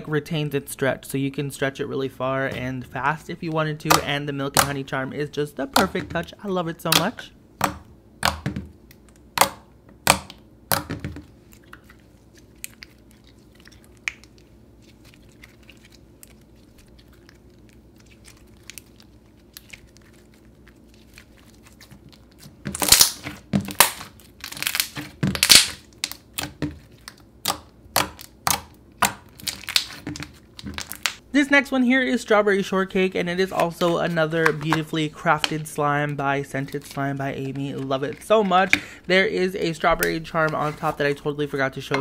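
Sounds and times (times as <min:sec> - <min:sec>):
slime squishing: 0:02.4 - 0:31.2, 0:33.3 - 0:42.0.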